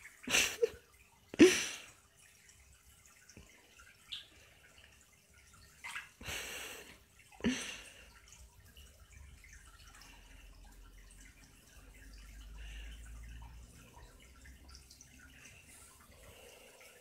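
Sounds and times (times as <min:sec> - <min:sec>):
water plops and splashes: 0:00.0 - 0:17.0.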